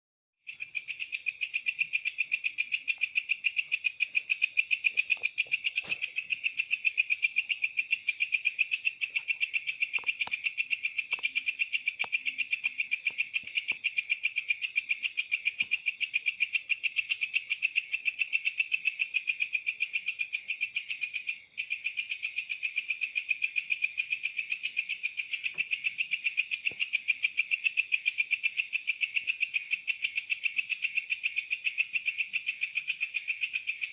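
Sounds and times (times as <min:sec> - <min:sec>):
cricket chirping: 0:00.4 - 0:33.9.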